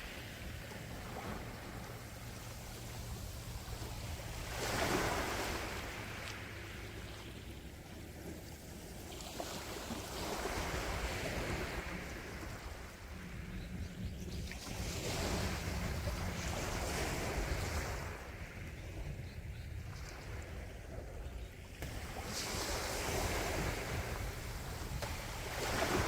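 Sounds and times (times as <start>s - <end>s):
sea waves breaking on shore: 0.0s - 13.6s, 14.4s - 19.2s, 19.8s - 26.0s
wind rumble on microphone: 0.0s - 26.0s.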